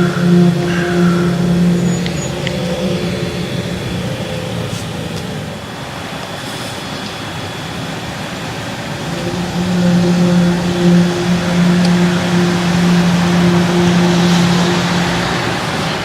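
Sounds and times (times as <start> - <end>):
rumbling noise: 0.0 - 6.6, 7.9 - 16.0
low droning hum: 0.0 - 16.0.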